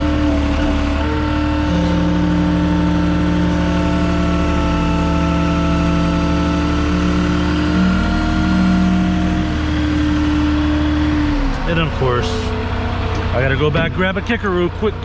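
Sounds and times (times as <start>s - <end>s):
steady whining tones: 0.0s - 14.1s
vehicle engine droning: 0.0s - 15.0s.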